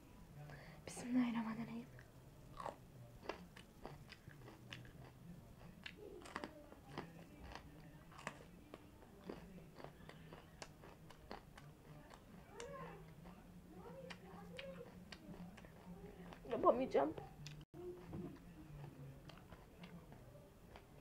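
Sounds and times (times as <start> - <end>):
crunching and chewing pepper: 2.5 - 21.0.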